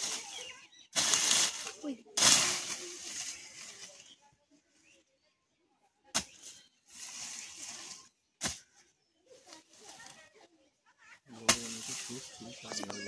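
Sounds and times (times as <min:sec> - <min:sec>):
rustling in undergrowth: 0:00.0 - 0:05.2, 0:06.2 - 0:10.6, 0:11.3 - 0:13.0.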